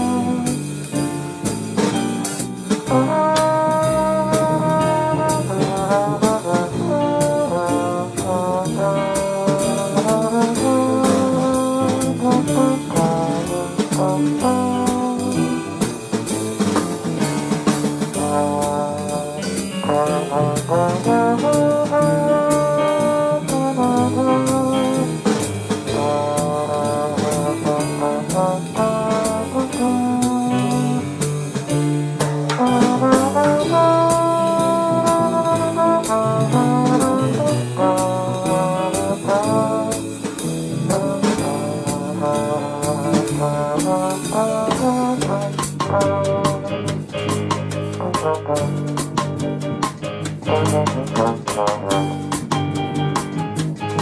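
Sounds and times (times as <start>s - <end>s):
double bass: 0.0s - 54.0s
drums keeping a beat: 0.0s - 54.0s
piano: 0.0s - 54.0s
trombone melody: 0.0s - 54.0s.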